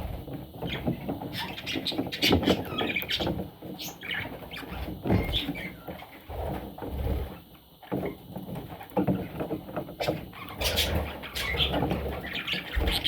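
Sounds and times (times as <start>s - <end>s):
budgerigars scratching and shuffling: 0.0s - 13.0s.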